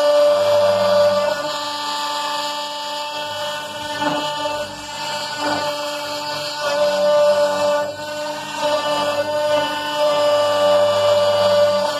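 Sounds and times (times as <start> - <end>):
cnc router whining: 0.0 - 11.9.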